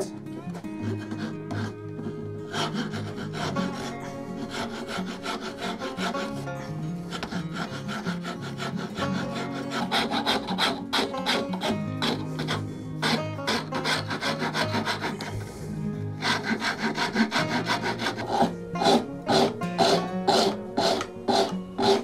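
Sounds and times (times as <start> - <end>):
background music: 0.0 - 22.0
wood rasp scraping wood: 0.0 - 22.0.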